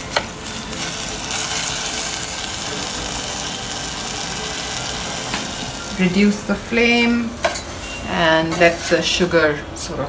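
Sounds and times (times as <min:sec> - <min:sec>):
food sizzling in a pan: 0:00.0 - 0:09.3.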